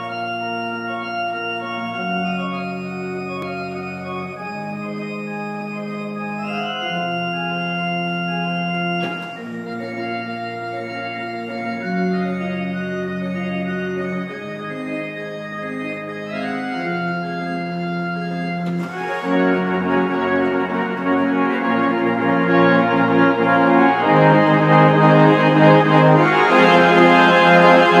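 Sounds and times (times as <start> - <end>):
pipe organ chords: 0.0 - 28.0.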